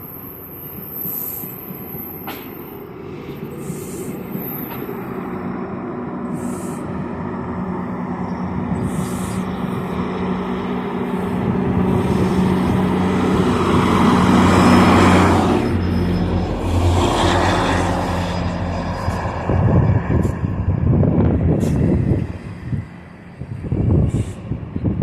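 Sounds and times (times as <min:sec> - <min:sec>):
diesel locomotive engine drone: 0:00.0 - 0:25.0
train rolling noise: 0:00.0 - 0:25.0.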